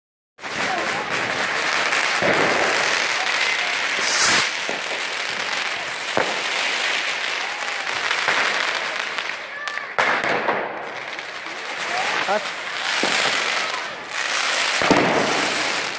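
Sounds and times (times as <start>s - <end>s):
firecrackers crackling: 0.4s - 15.9s
firework bangs: 0.4s - 15.9s
firework whistles: 0.4s - 15.9s.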